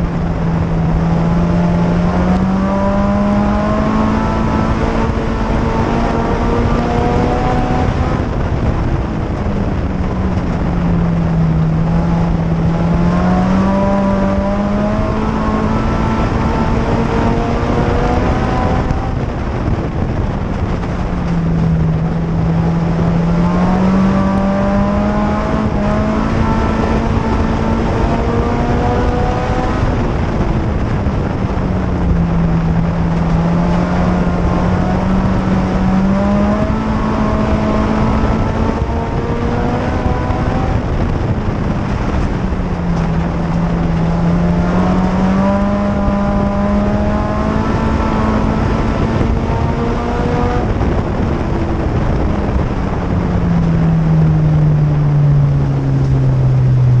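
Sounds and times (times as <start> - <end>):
race car engine running hard: 0.0 - 57.0
road and drivetrain noise: 0.0 - 57.0.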